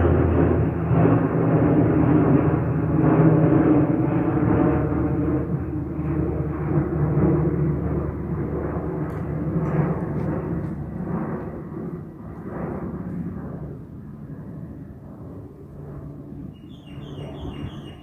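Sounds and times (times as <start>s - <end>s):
airliner taking off: 0.0s - 18.0s.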